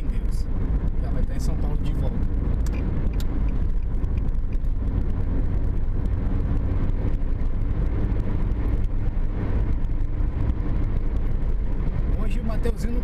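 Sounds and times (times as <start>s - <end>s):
car cabin engine and tyre noise: 0.0s - 13.0s.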